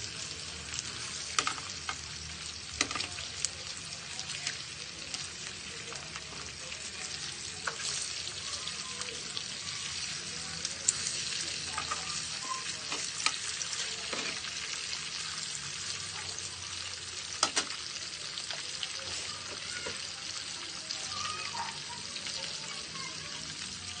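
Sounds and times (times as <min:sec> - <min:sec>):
meat sizzling: 0:00.0 - 0:24.0.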